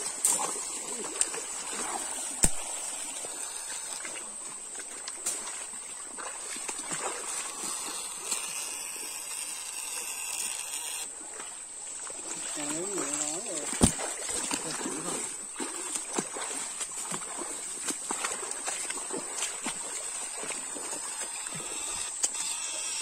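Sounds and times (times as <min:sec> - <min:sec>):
stream water rushing and splashing: 0:00.0 - 0:23.0.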